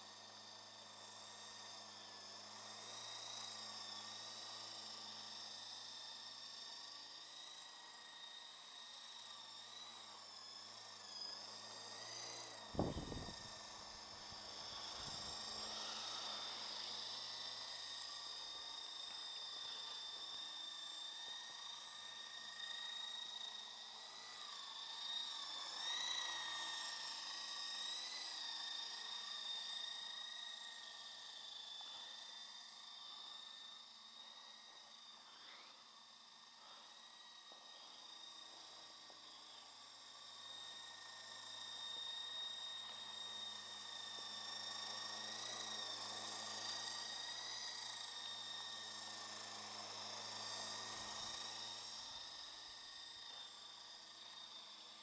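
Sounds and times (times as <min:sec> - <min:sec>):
toy helicopter rotors whining: 0:00.0 - 0:55.0.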